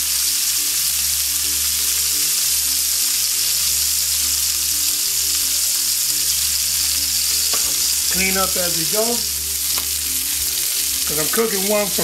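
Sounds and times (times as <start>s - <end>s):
fish searing in oil sizzle: 0.0s - 12.0s.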